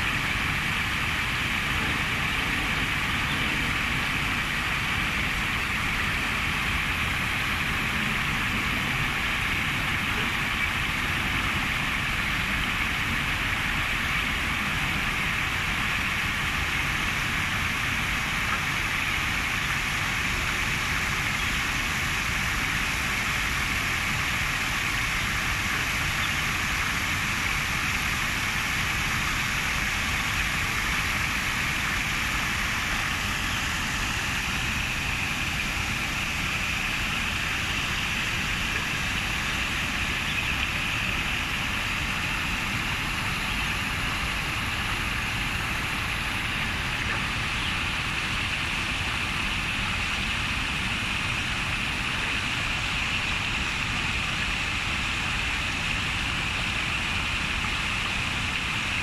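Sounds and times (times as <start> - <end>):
stream bubbling over rocks: 0.0 - 59.0.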